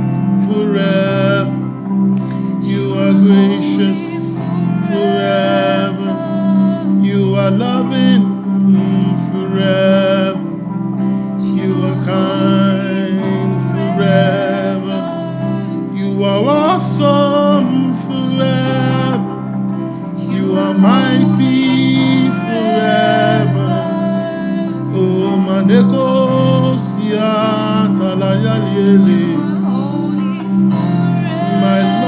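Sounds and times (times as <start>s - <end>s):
held chords: 0.0s - 32.0s
person singing: 0.0s - 32.0s.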